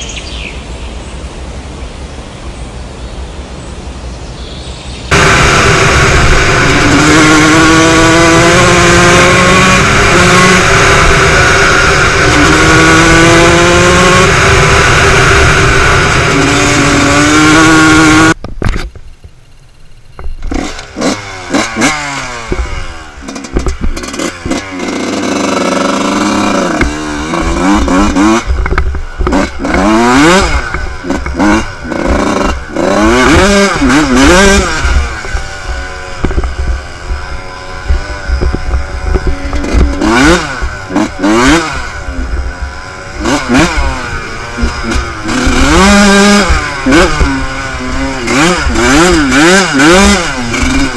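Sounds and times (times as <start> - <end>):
motocross bike engines revving: 5.1 - 18.4, 20.3 - 50.9.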